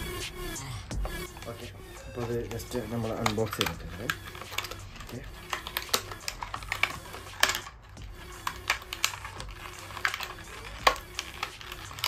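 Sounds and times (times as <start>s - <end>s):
plastic packaging crackling: 1.3s - 12.0s.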